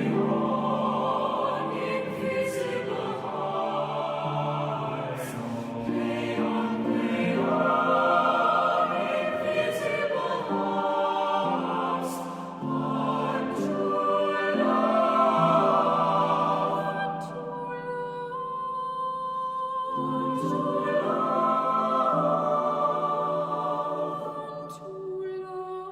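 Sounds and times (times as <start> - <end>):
group of voices singing in harmony: 0.0 - 25.9.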